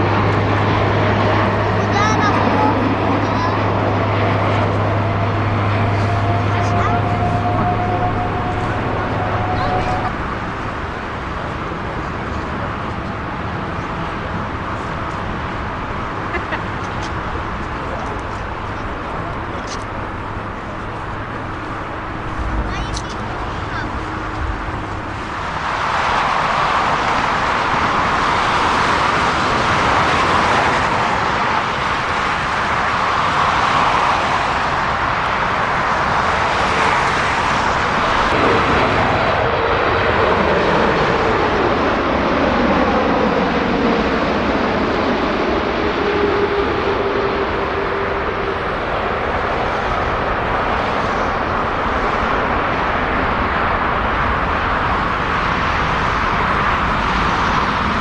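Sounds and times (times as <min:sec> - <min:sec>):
jet airliner passing: 0:00.0 - 0:58.0.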